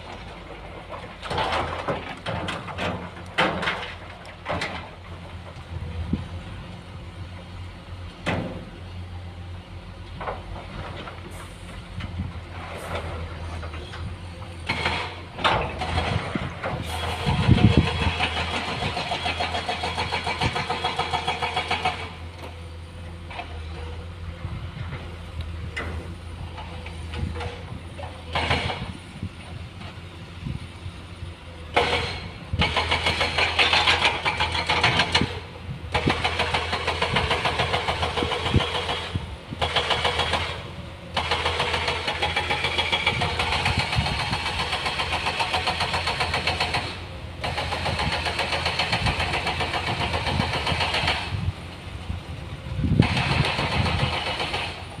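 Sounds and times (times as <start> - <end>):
dump truck diesel engine running: 0.0 - 55.0.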